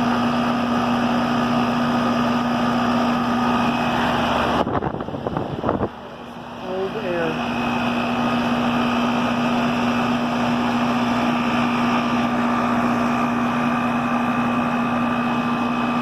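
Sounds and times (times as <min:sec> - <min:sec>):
compressor hum: 0:00.0 - 0:16.0
outdoor fan rushing: 0:00.0 - 0:16.0
thin steady whine: 0:00.0 - 0:16.0.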